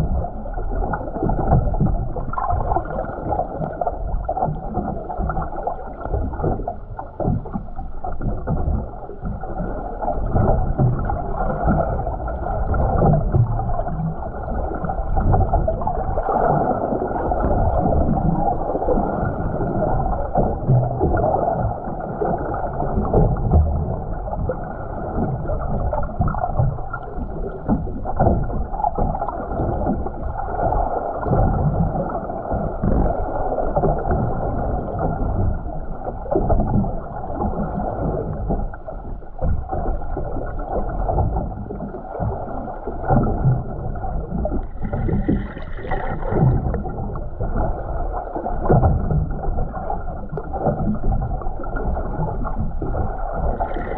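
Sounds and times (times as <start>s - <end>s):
muffled underwater sloshing: 0.0s - 53.9s.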